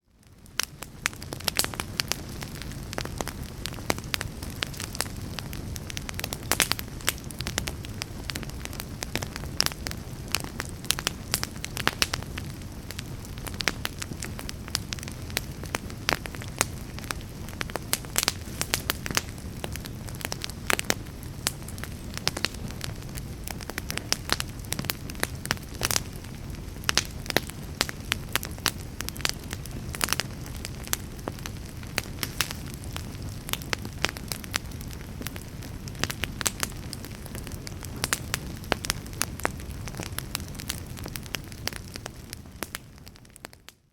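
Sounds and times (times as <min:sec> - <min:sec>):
log fire crackling: 0:00.0 - 0:43.9.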